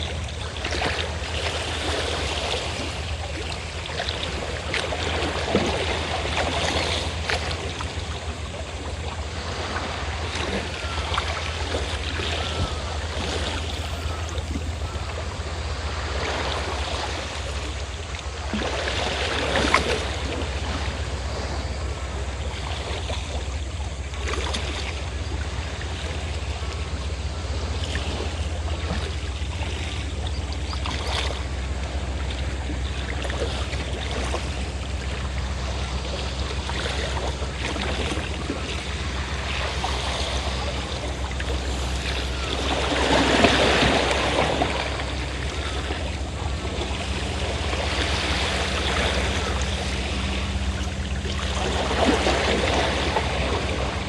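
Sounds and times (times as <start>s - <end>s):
boat engine humming: 0.0s - 54.0s
sea waves washing on shore: 0.0s - 54.0s.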